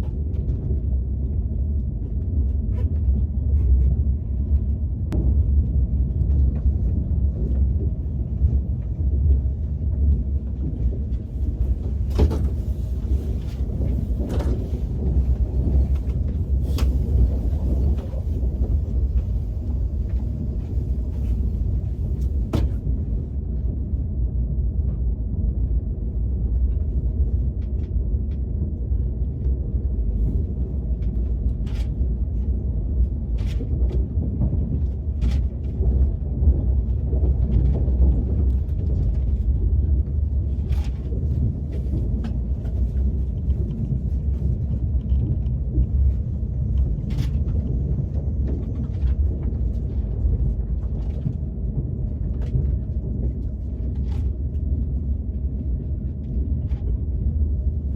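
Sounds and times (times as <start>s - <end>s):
train rumbling in motion: 0.0s - 57.9s.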